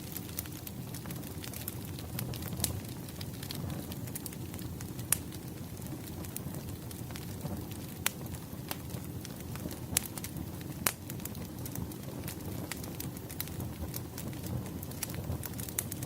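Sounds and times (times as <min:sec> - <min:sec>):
fire crackles and pops: 0:00.0 - 0:16.0
low rumble of flame: 0:00.0 - 0:16.0.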